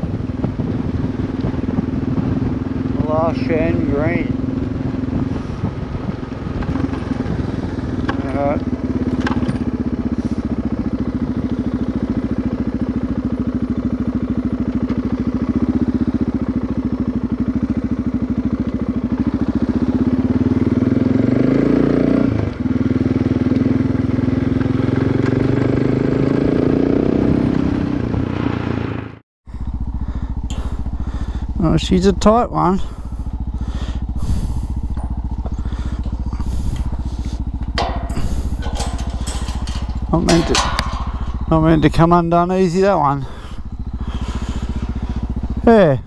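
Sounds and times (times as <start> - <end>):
motorcycle engine revving: 0.0 - 46.0
motorcycle idling: 0.0 - 46.0.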